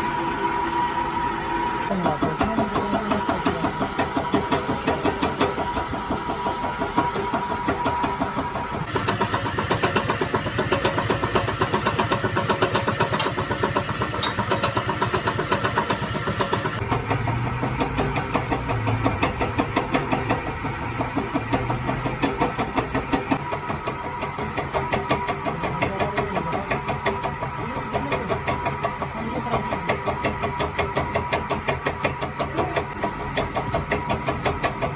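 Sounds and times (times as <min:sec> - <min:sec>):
high machine whine: 0:00.0 - 0:34.9
machine running with rhythmic pulse: 0:00.0 - 0:34.9.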